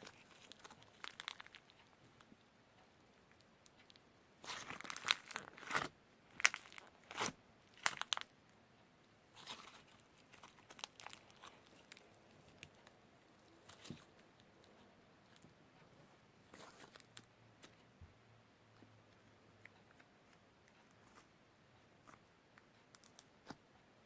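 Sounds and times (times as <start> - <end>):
crinkling and rustling: 0.0 - 8.3, 9.3 - 18.1, 18.7 - 21.4.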